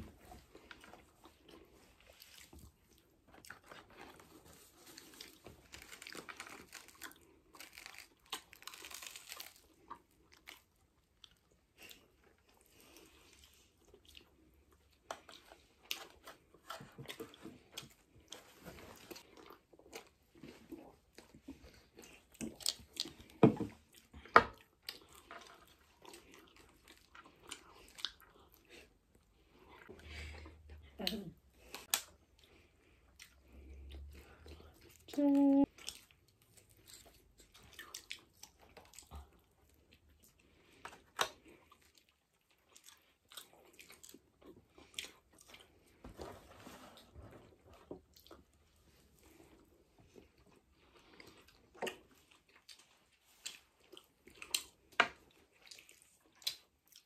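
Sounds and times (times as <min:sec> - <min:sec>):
chewing pizza: 0:00.0 - 0:46.1, 0:46.9 - 0:57.0.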